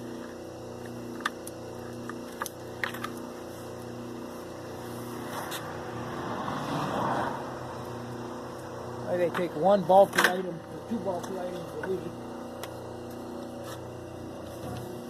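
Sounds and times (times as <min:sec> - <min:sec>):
rasping machine noise: 0:00.0 - 0:15.0
wire-stripping machine humming: 0:00.0 - 0:15.0.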